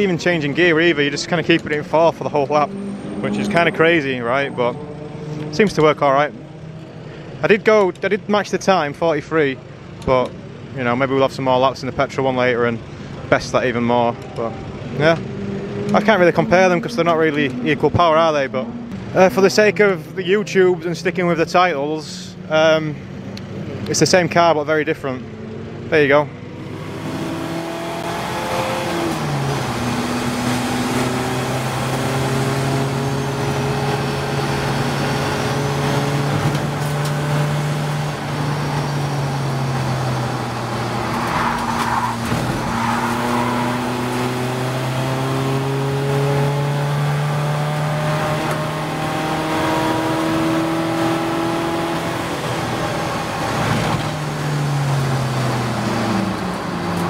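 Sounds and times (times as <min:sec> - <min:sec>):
race car engine under power: 0:00.0 - 0:57.0.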